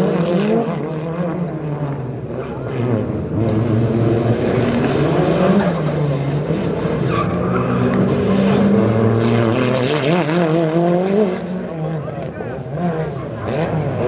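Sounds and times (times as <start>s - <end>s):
car engine revving: 0.0s - 14.0s
tyres skidding: 1.9s - 14.0s.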